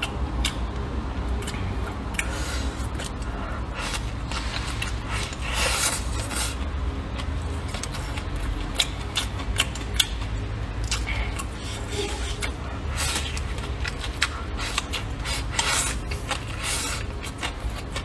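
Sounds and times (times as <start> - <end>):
wet chewing: 0.0 - 0.6, 1.3 - 18.0
steady low hum: 0.0 - 18.0.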